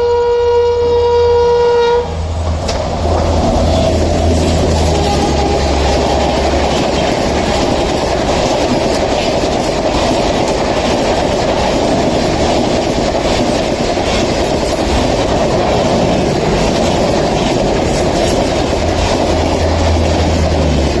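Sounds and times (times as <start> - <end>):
train passing rumble: 0.0 - 21.0
wheels clattering over rails: 2.2 - 21.0.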